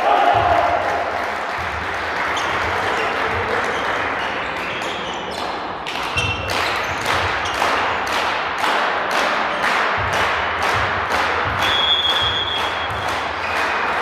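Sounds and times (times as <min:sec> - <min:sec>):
crowd noise: 0:00.0 - 0:14.0.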